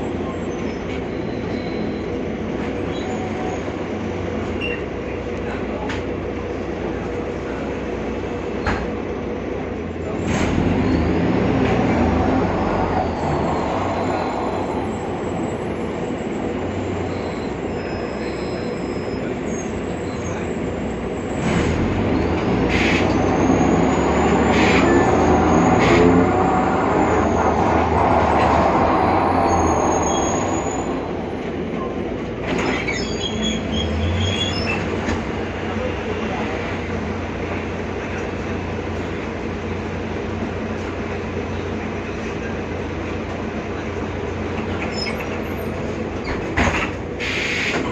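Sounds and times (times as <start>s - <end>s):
bus drivetrain and road noise: 0.0s - 47.9s.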